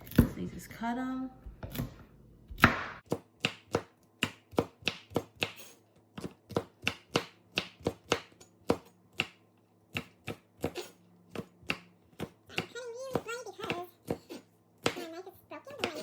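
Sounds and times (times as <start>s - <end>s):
knife chopping on cutting board: 1.6s - 15.1s.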